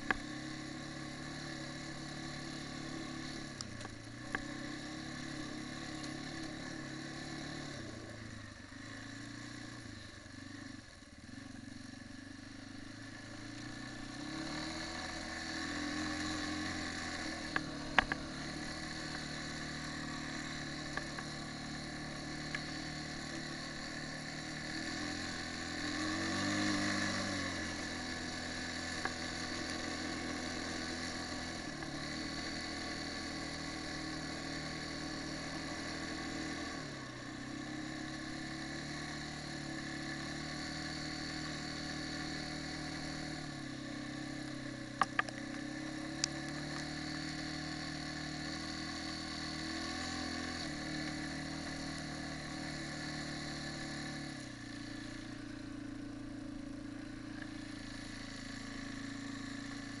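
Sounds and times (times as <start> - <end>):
quad bike engine running: 0.0 - 60.0.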